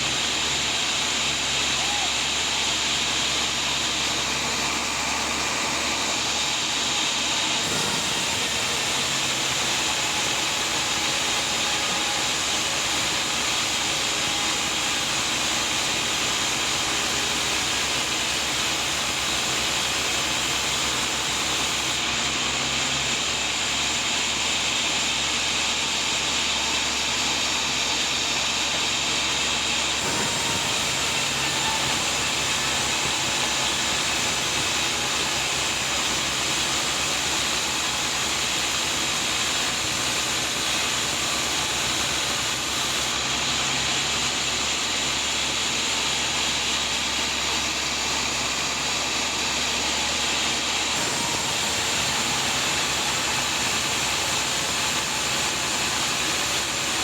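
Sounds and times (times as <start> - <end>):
sawmill saw whining: 0.0 - 57.0.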